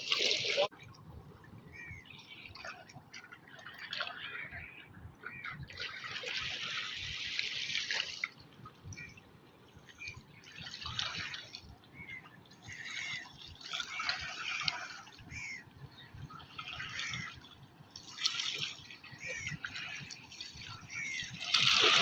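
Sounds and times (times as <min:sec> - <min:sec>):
river water lapping: 0:00.0 - 0:22.0.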